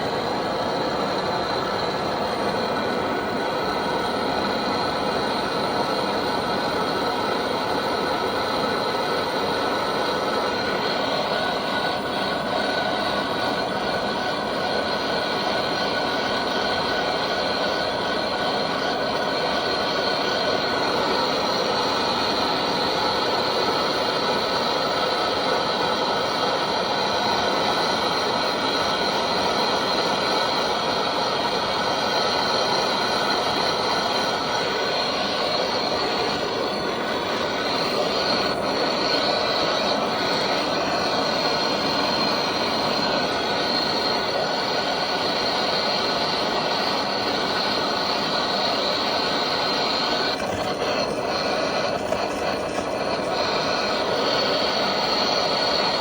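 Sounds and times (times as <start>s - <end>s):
heating tool hissing: 0.0s - 56.0s.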